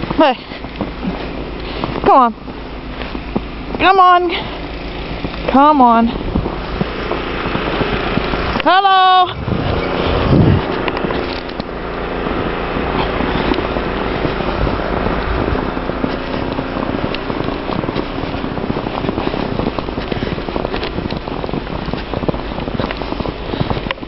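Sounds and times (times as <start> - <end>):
footsteps crunching in snow: 0.0 - 24.0
low microphone rumble: 0.0 - 24.0.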